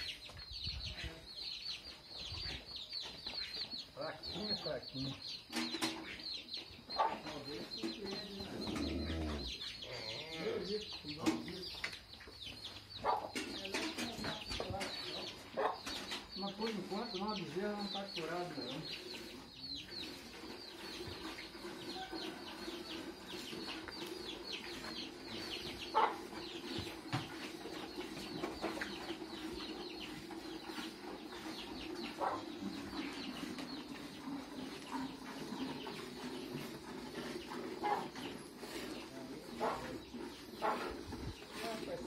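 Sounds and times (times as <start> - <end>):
chickens clucking: 0.0 - 42.0
chicks peeping: 0.0 - 42.0.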